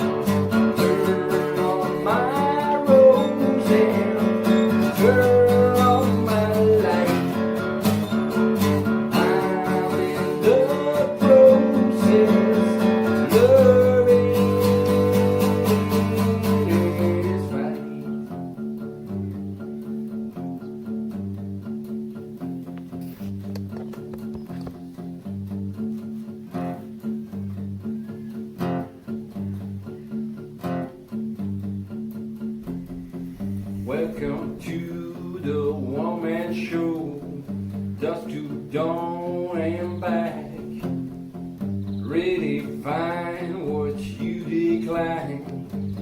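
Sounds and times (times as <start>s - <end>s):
song with strummed acoustic guitar: 0.0s - 46.0s.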